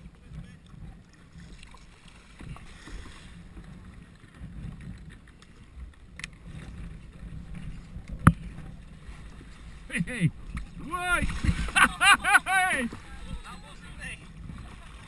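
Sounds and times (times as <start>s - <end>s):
water moving around kayak: 0.0s - 15.0s
wind buffeting microphone: 0.0s - 15.0s.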